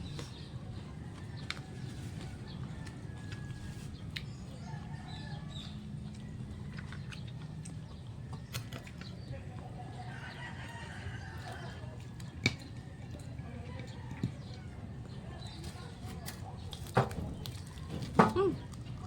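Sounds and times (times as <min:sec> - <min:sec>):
eating clicks and crunches: 0:00.0 - 0:19.0.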